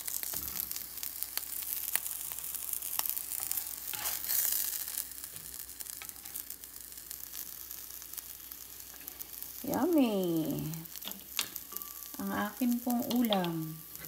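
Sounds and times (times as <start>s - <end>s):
eggs sizzling in a frying pan: 0.0s - 14.0s.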